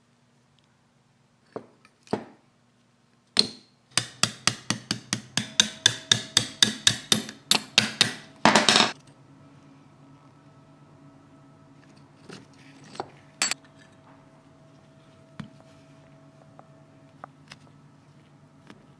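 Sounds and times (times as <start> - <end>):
low steady hum: 0.0 - 18.9.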